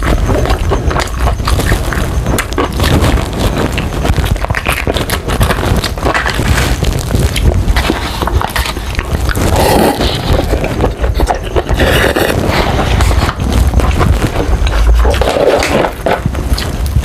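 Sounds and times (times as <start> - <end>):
chewing and crunching fried chicken: 0.0 - 17.0.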